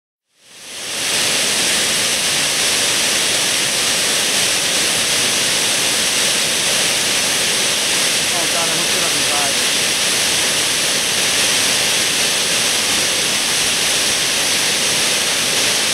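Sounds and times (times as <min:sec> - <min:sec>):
waterfall roaring: 0:00.5 - 0:15.9.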